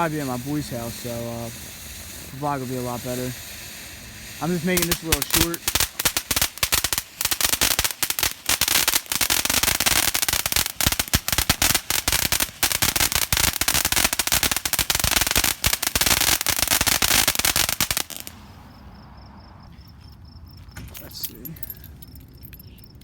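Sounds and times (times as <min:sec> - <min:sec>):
firecrackers popping: 0:00.0 - 0:18.6.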